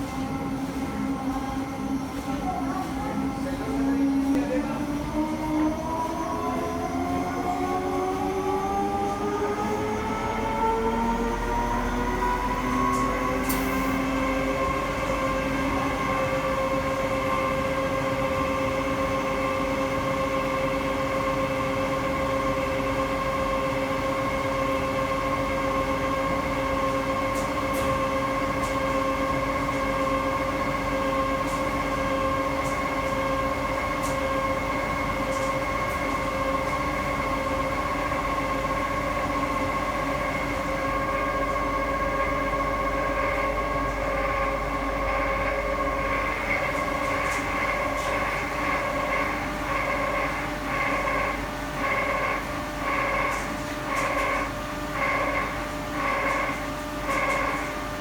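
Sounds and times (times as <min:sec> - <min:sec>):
washing machine spinning whine: 0:00.0 - 0:58.0.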